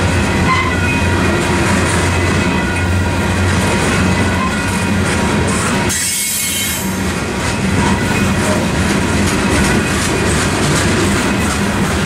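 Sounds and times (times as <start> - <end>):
steel wheels rumbling on rail: 0.0 - 12.0
wheels clacking over rail joints: 0.0 - 12.0.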